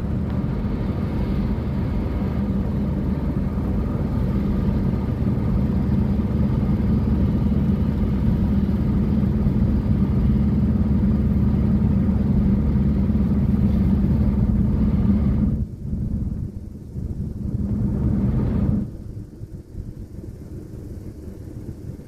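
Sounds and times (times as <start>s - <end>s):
car engine and tyre drone: 0.0s - 22.0s.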